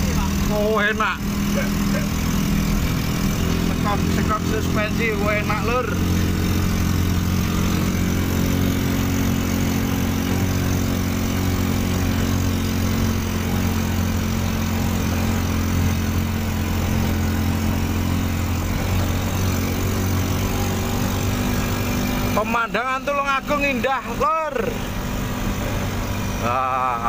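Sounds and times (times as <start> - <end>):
motorbike engine droning: 0.0 - 27.0.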